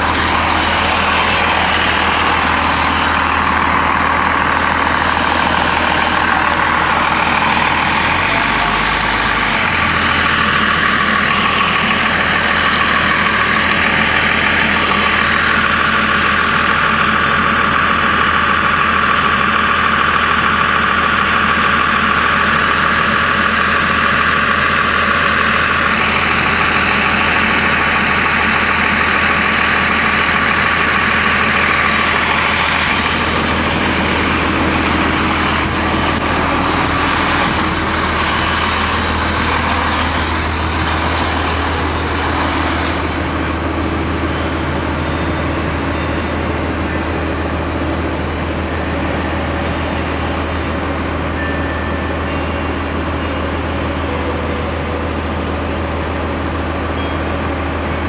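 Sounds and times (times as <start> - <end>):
bus diesel engine idling: 0.0 - 58.0
steady high whine: 0.0 - 58.0.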